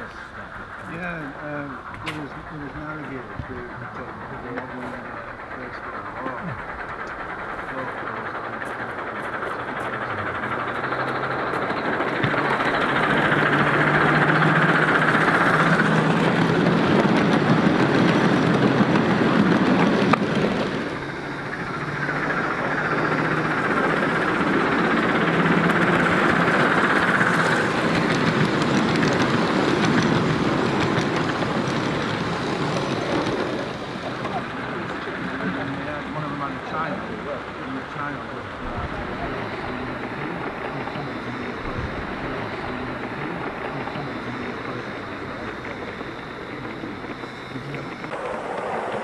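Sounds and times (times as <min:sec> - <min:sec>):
model train wheels rattling on track: 0:00.0 - 0:49.0.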